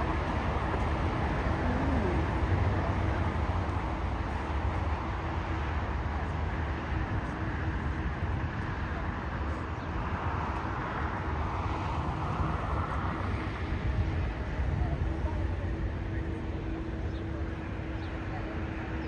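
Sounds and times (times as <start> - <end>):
distant jet engines rushing: 0.0 - 19.0.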